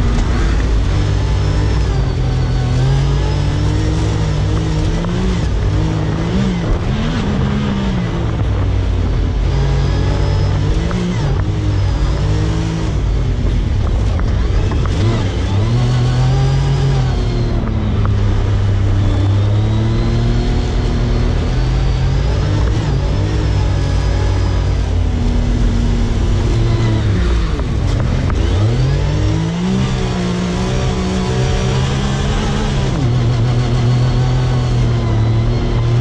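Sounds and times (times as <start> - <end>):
driving noise rush: 0.0 - 36.0
engine revving: 0.0 - 36.0.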